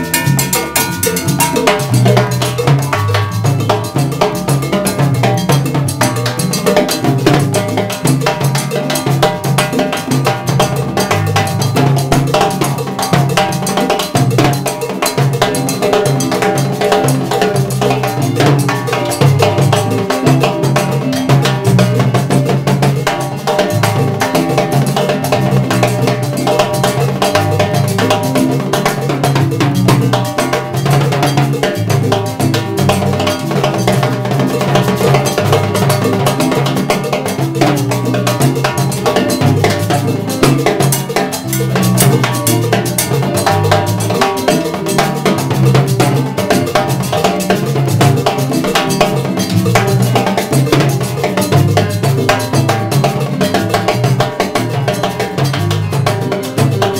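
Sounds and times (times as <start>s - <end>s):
block struck in cowbell-like pattern: 0.0s - 56.9s
electric bass line: 0.0s - 56.9s
keyboard: 0.0s - 56.9s.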